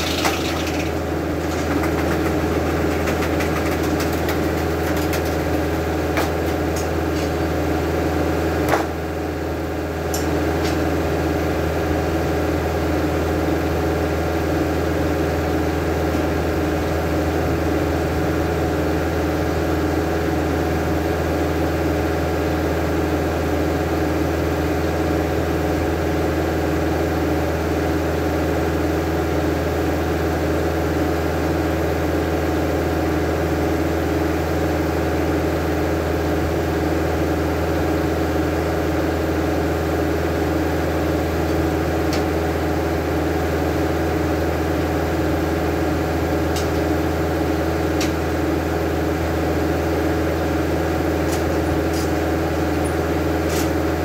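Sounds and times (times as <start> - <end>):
sawmill engine humming: 0.0 - 54.0.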